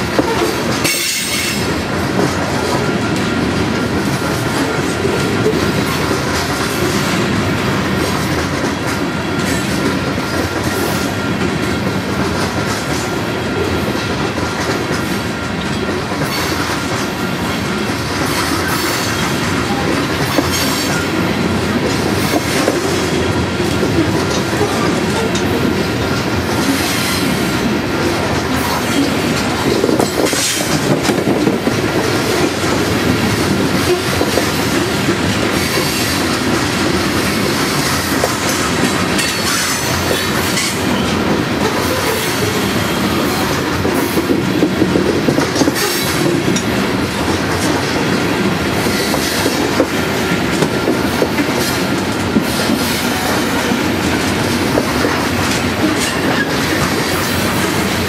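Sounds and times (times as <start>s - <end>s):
steel wheels rolling on rail: 0.0s - 58.0s
train cars clicking and clanking: 0.0s - 58.0s.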